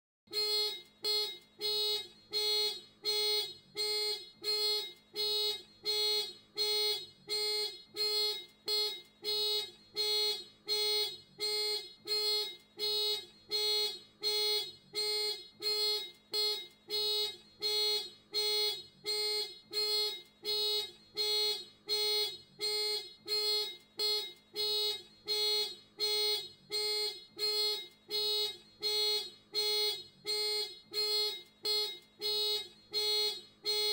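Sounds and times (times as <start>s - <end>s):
car alarm beeping: 0.3s - 33.9s.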